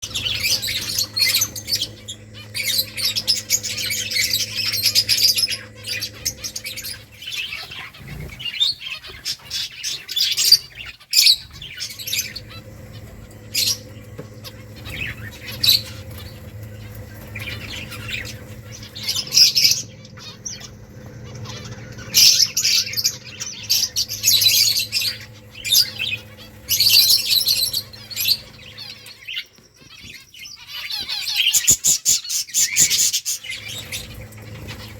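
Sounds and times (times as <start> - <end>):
steady low hum: 0.0 - 30.7, 33.4 - 34.9
finches chirping: 0.0 - 34.9.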